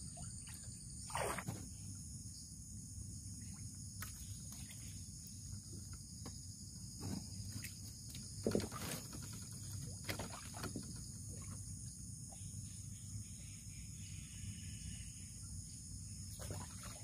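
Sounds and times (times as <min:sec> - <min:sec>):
forest insects chorus: 0:00.0 - 0:17.0.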